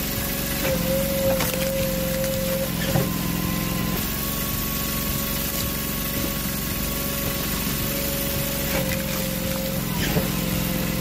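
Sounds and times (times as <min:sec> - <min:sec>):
log splitter engine running: 0:00.0 - 0:11.0
thin steady whine: 0:00.0 - 0:11.0.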